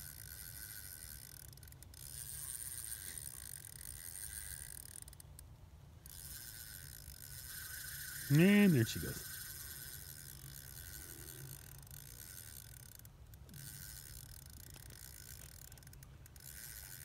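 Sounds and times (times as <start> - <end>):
fishing reel drag ticking: 0.0 - 17.0.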